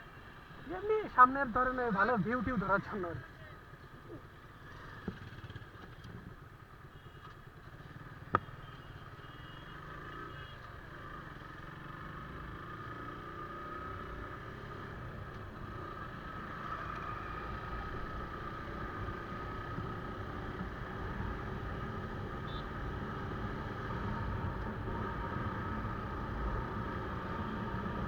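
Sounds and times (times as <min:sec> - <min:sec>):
road and wind rumble: 0:00.0 - 0:08.5, 0:09.8 - 0:28.0
motorcycle riding: 0:00.0 - 0:28.0.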